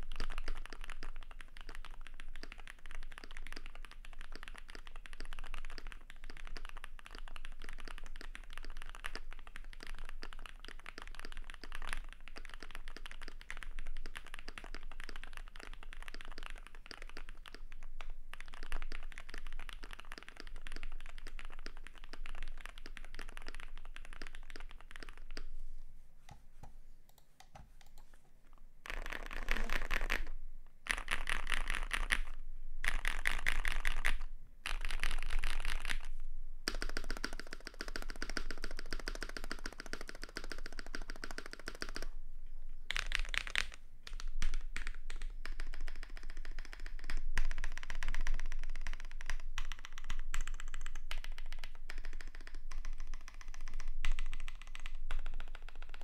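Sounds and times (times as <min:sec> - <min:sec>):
mechanical keyboard typing: 0:00.0 - 0:17.8, 0:18.4 - 0:25.4, 0:30.9 - 0:36.1, 0:36.7 - 0:42.1, 0:42.9 - 0:56.0.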